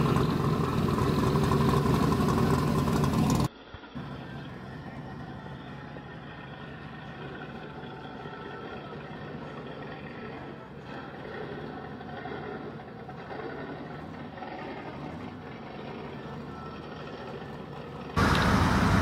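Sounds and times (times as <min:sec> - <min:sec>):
car engine running loud: 0:00.0 - 0:19.0.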